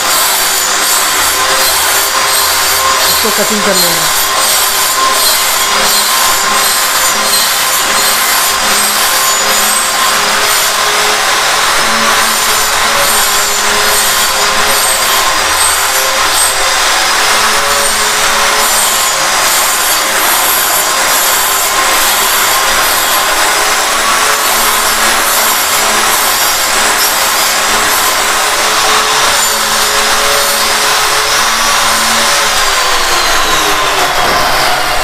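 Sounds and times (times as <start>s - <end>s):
circular saw cutting wood: 0.0s - 35.0s.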